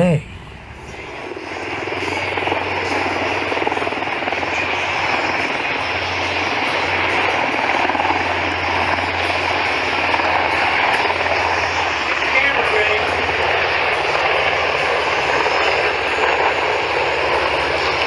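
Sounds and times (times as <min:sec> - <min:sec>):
aircraft engine running: 0:00.0 - 0:18.0.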